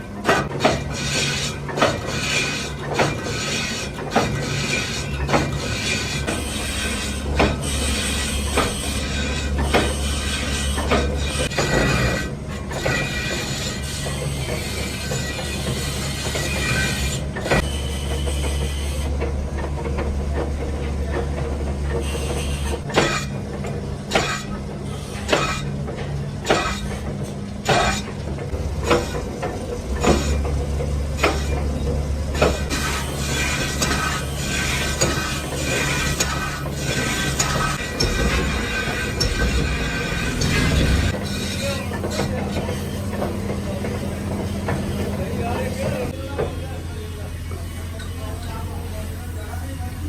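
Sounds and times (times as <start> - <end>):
metal clanks and knocks: 0.1 - 46.6.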